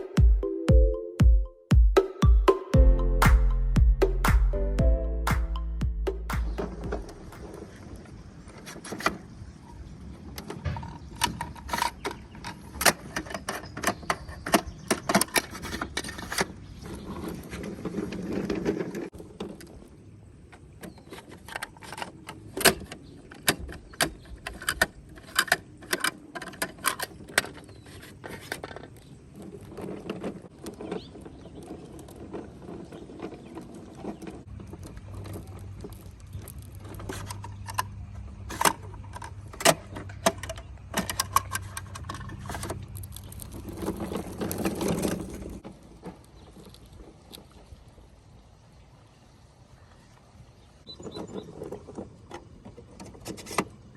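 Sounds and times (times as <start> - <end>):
plastic toy trucks rattling: 6.6 - 47.5, 51.0 - 53.9.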